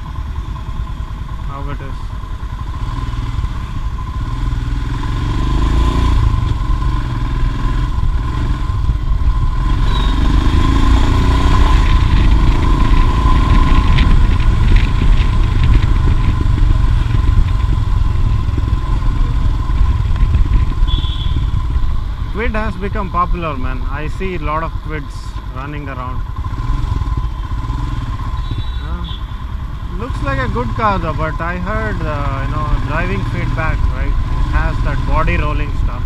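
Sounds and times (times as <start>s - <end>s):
motorcycle engine rumbling: 0.0s - 36.0s.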